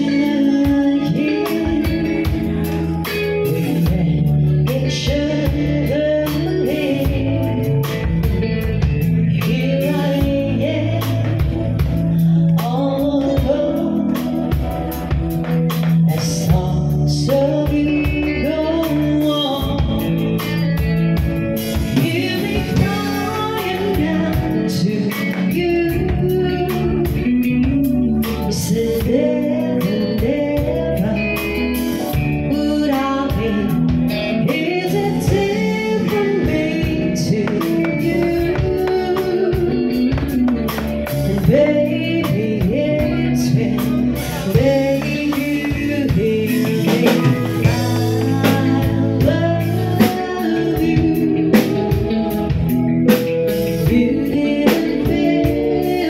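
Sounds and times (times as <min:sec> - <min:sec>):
drum kit: 0:00.0 - 0:56.0
electric guitar: 0:00.0 - 0:56.0
keyboard: 0:00.0 - 0:56.0
man singing: 0:00.0 - 0:56.0
woman singing: 0:00.0 - 0:56.0.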